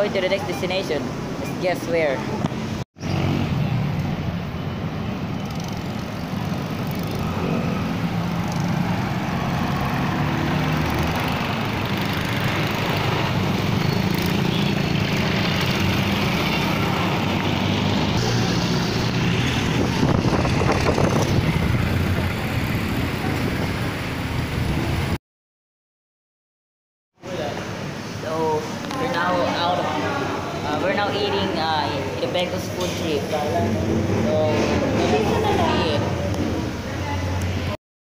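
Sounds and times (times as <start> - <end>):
motorcycles and cars passing: 0.0 - 25.2, 27.3 - 37.8.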